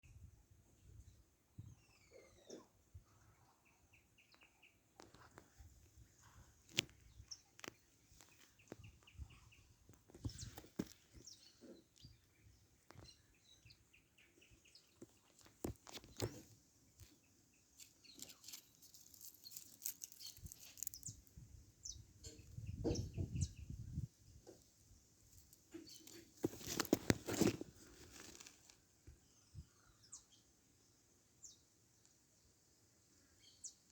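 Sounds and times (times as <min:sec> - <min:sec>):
faint bird chirps: 0:00.1 - 0:16.4, 0:17.0 - 0:25.0, 0:29.1 - 0:31.7, 0:33.1 - 0:33.9.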